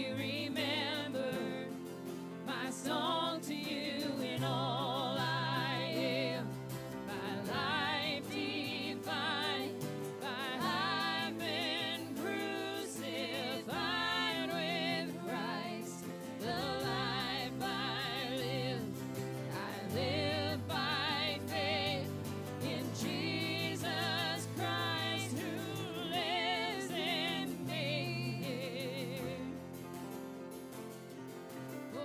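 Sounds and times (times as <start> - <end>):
woman singing with vibrato: 0.0 - 1.8, 2.5 - 29.5
electric guitar: 0.0 - 32.0
strummed acoustic guitar: 0.0 - 32.0.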